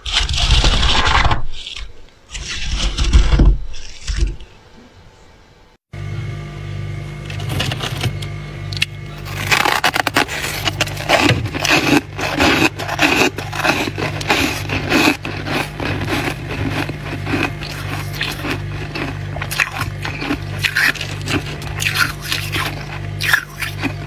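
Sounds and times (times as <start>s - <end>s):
freezer frost crunching and scraping: 0.0s - 4.5s, 7.2s - 24.0s
steady low hum: 0.0s - 24.0s.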